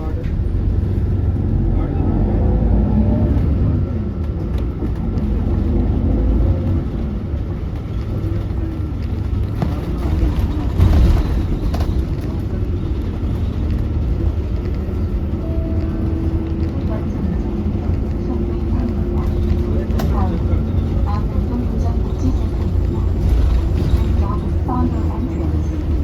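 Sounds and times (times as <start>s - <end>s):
coach engine low rumble: 0.0s - 26.0s.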